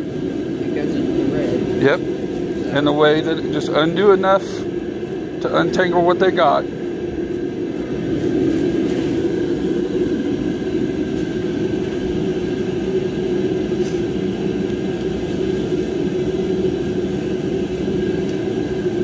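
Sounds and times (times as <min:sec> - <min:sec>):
mechanical drone: 0:00.0 - 0:19.0.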